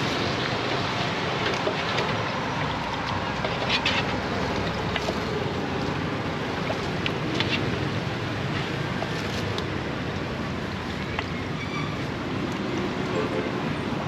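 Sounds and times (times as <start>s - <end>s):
market crowd noise: 0.0s - 14.0s.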